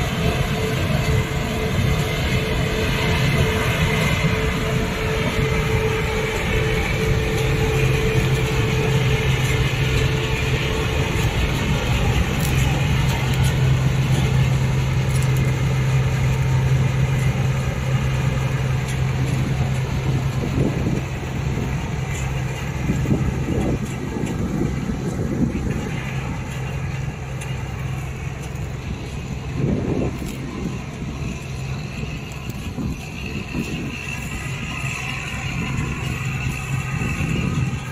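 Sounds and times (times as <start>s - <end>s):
combine harvester engine hum: 0.0s - 37.9s
threshing machinery rumble: 0.0s - 37.9s.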